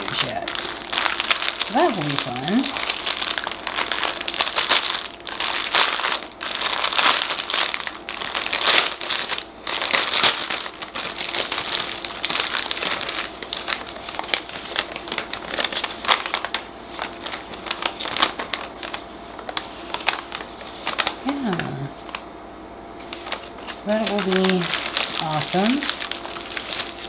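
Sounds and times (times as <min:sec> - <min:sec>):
plastic bag crinkling: 0:00.0 - 0:22.3, 0:23.0 - 0:27.0
plastic packets rustling: 0:00.0 - 0:22.3, 0:23.0 - 0:27.0.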